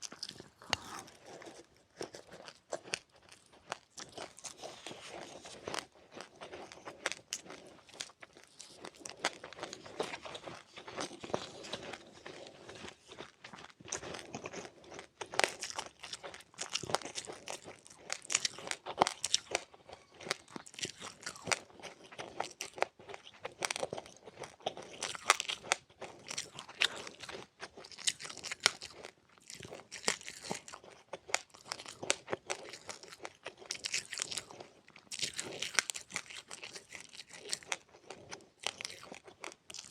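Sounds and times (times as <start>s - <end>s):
person crunching and chewing seeds: 0.0s - 39.9s.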